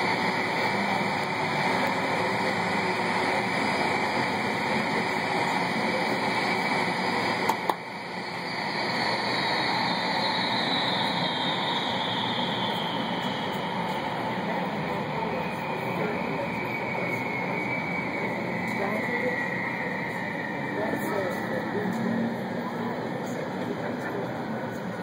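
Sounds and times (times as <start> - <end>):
jet engine roar: 0.0 - 25.0
jet engine whine spooling down: 0.0 - 25.0.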